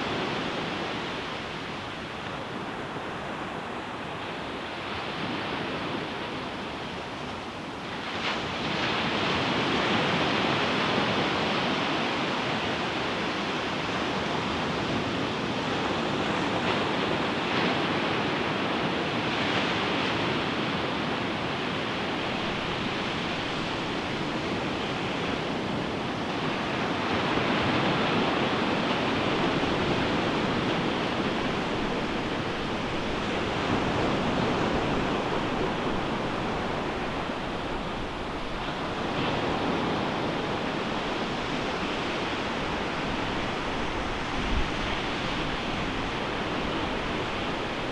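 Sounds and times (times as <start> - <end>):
ocean surf washing on beach: 0.0 - 47.9.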